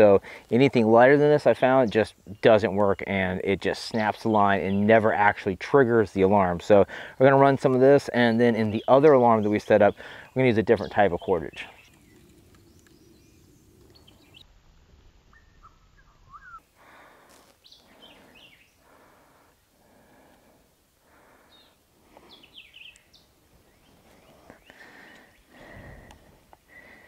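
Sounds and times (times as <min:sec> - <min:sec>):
birds chirping: 0:00.0 - 0:14.5, 0:15.1 - 0:27.0.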